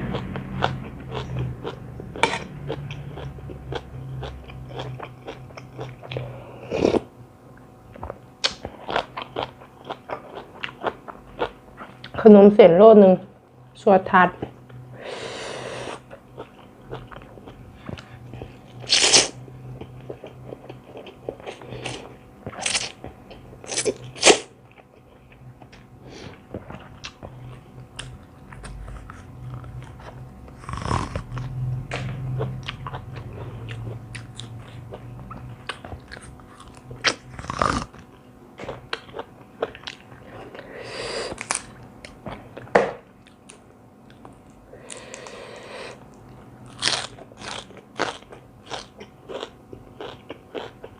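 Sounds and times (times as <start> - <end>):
chewing with wet mouth sounds: 0.0 - 12.2, 16.0 - 18.9, 19.7 - 40.7, 46.0 - 50.9.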